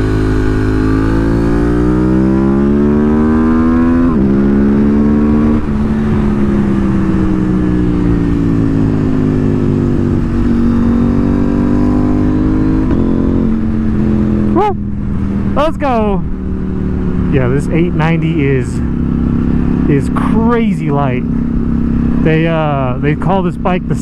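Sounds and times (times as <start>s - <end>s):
motorcycle engine revving and shifting: 0.0s - 24.0s.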